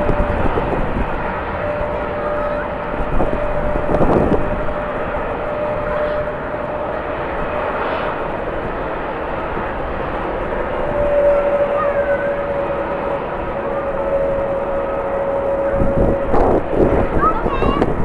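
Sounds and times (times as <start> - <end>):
jet engines whining: 0.0 - 18.0
wind rumble on microphone: 0.0 - 18.0.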